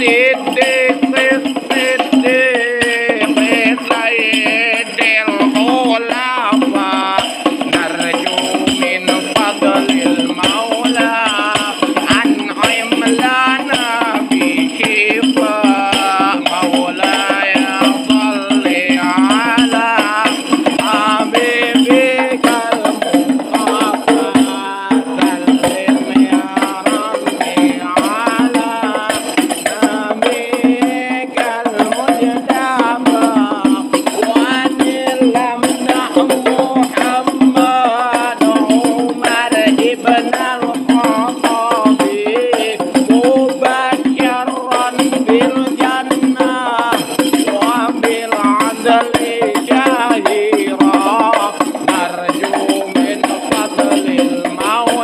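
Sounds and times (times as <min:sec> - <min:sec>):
hand percussion beat: 0:00.0 - 0:55.0
person singing ornamented melody: 0:00.0 - 0:55.0.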